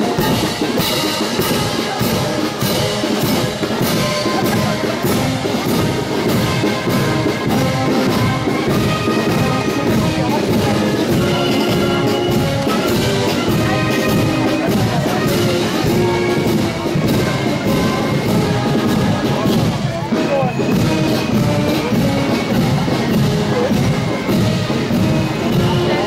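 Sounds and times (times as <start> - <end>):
brass marching band playing: 0.0 - 26.0
steady drum beat: 0.0 - 26.0.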